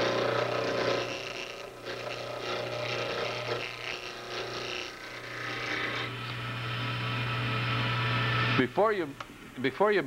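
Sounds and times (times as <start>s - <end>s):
gouge scraping spinning wood: 0.0s - 8.6s
lathe motor hum: 0.0s - 9.6s.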